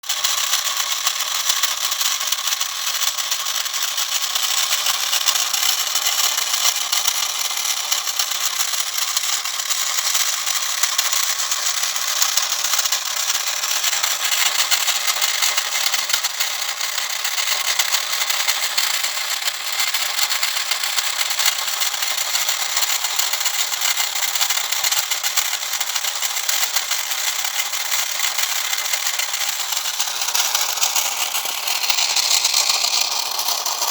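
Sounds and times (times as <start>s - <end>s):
toy locomotive motor whirring: 0.0s - 33.9s.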